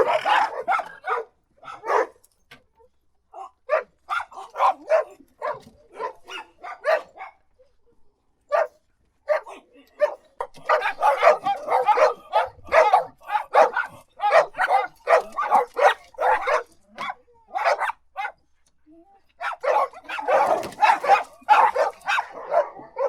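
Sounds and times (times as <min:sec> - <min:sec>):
dog barking: 0:00.0 - 0:02.2, 0:03.4 - 0:07.4, 0:08.5 - 0:18.4, 0:19.4 - 0:23.0.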